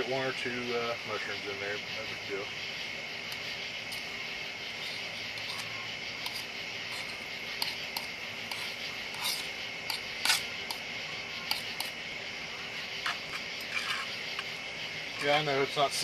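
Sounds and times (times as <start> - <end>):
onions frying in butter: 2.5 - 16.0.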